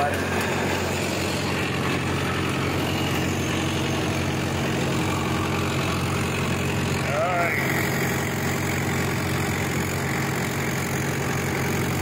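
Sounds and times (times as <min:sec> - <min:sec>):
tillage implement working: 0:00.0 - 0:12.0
tractor diesel engine running: 0:00.0 - 0:12.0.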